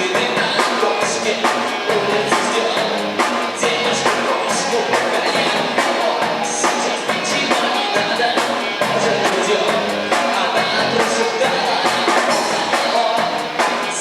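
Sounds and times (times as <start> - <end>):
drum kit steady beat: 0.0 - 14.0
rock band playing live: 0.0 - 14.0.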